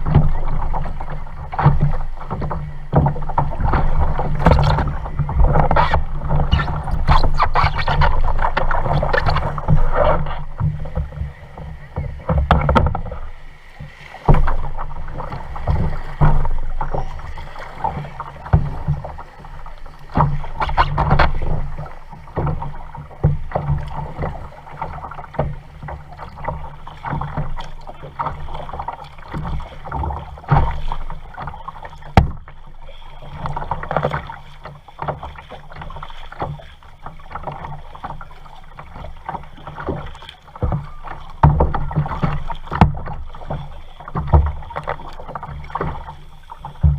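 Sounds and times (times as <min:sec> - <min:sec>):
paddle splashing in water: 0:00.0 - 0:46.9.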